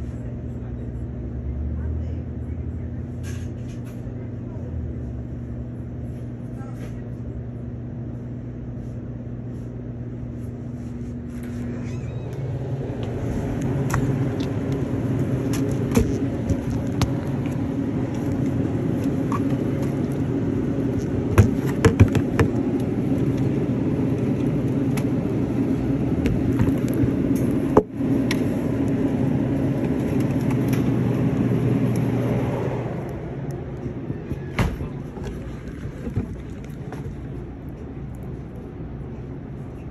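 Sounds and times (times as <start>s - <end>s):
low handling rumble: 0.0s - 39.9s.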